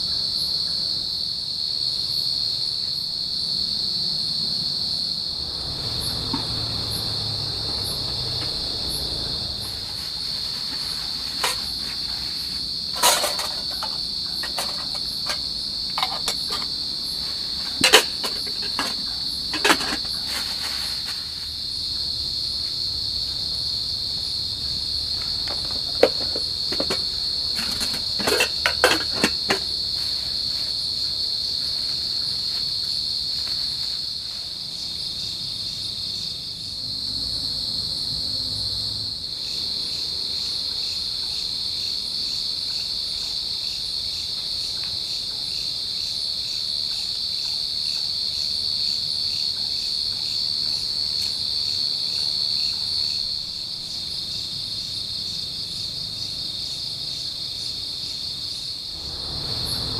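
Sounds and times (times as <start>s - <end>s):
insect chorus trilling: 0.0s - 59.9s.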